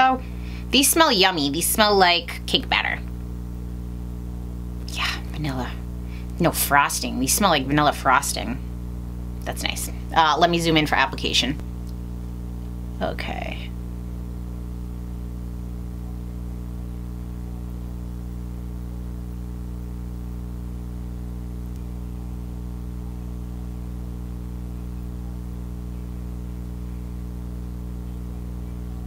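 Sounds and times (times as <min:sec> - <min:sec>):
electrical hum with buzzing: 0:00.0 - 0:29.0.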